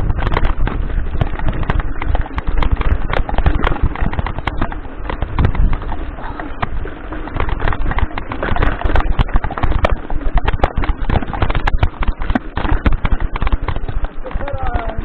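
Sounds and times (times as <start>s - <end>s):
bike chain and frame rattling: 0.0s - 15.0s
wind rumble on microphone: 0.0s - 15.0s.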